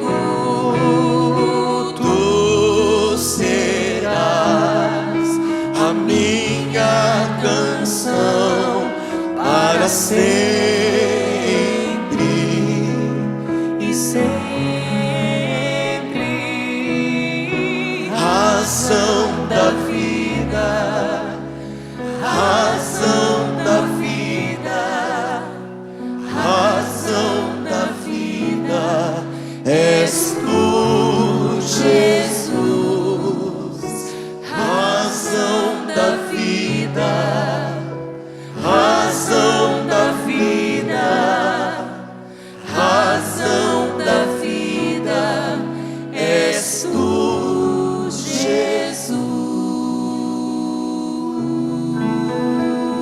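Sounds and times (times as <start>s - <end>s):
gospel singing voices: 0.0s - 53.0s.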